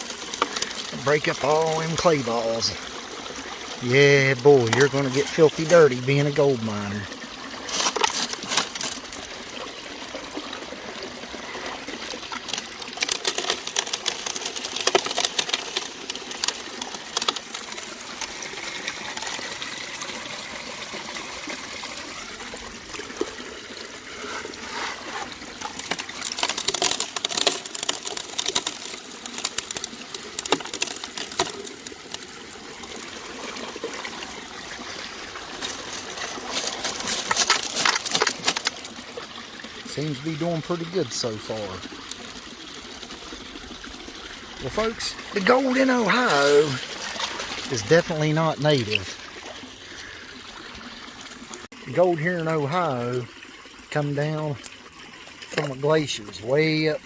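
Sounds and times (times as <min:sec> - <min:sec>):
gravel clicking and rattling: 0:00.0 - 0:57.0
water running: 0:00.0 - 0:57.0.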